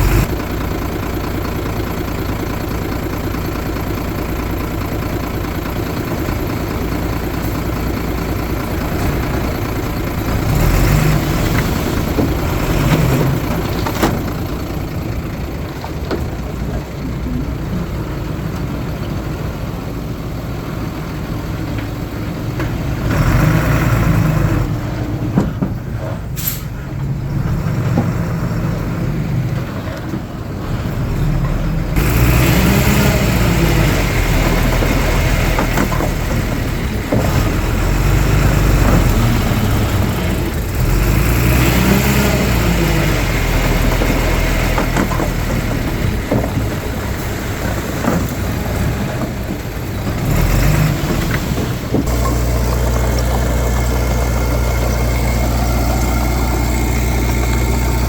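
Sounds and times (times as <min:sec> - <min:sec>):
heavy diesel engines revving: 0:00.0 - 0:58.0.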